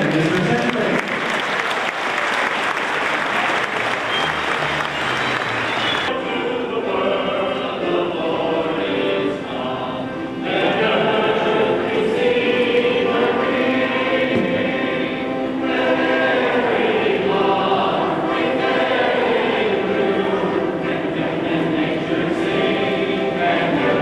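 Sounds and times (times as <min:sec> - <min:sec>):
choir singing: 0:03.2 - 0:24.0.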